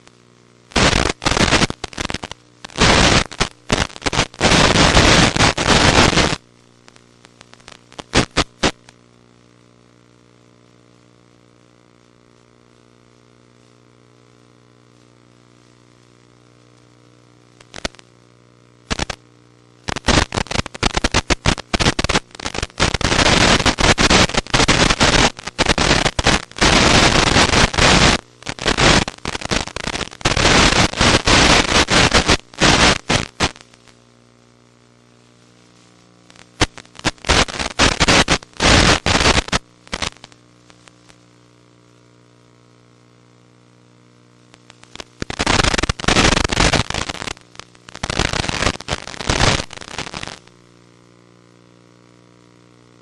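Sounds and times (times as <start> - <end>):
radio static hiss: 0.0 - 53.0
steady low hum: 0.0 - 53.0.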